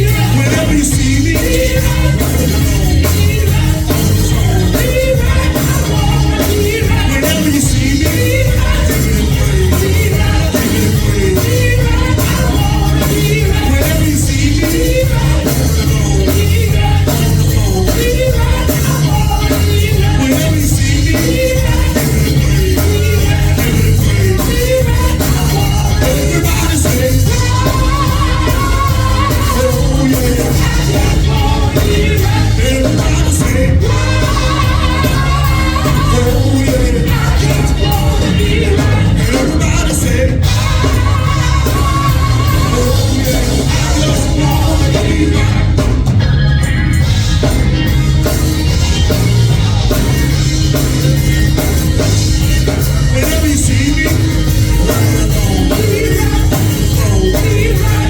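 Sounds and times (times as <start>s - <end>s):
people singing over a band: 0.0s - 58.0s.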